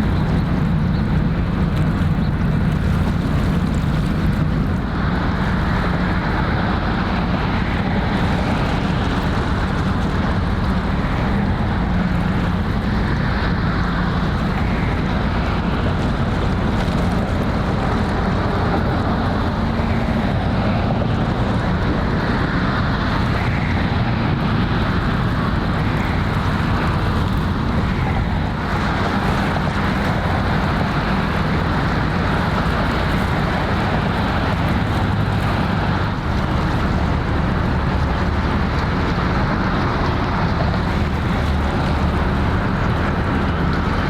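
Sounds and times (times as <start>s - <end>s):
ship engine drone: 0.0s - 44.0s
water washing: 0.0s - 44.0s
wind buffeting microphone: 0.0s - 44.0s.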